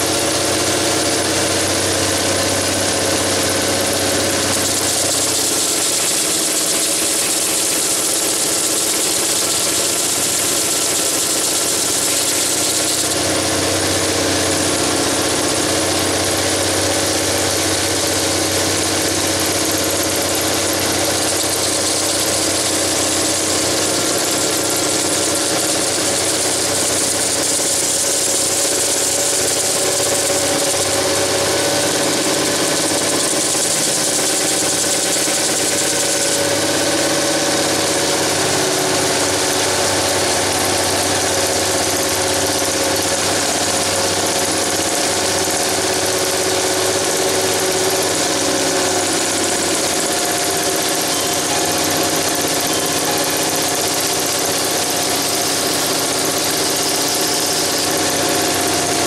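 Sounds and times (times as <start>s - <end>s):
electric drill motor whining: 0.0s - 59.0s.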